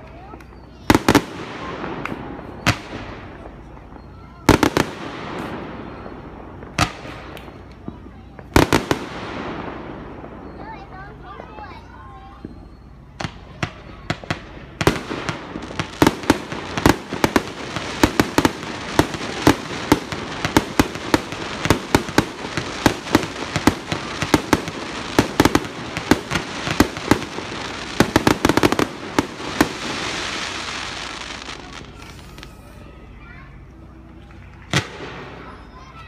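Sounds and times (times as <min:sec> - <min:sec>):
fireworks bangs: 0:00.0 - 0:32.9, 0:33.5 - 0:36.0.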